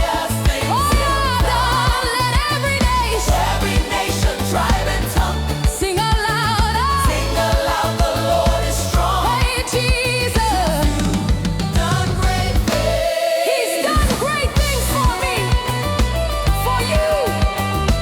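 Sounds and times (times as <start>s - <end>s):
upbeat gospel praise music: 0.0s - 18.0s.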